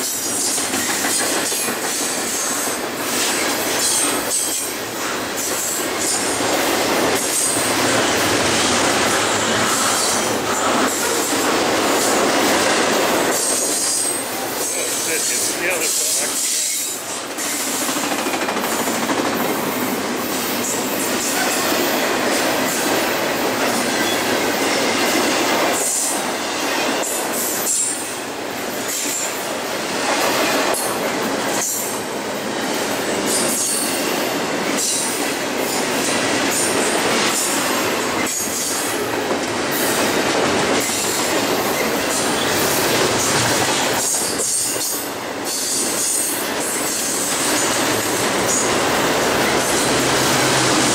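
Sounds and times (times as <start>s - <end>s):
train wheels rushing on rails: 0.0s - 50.9s.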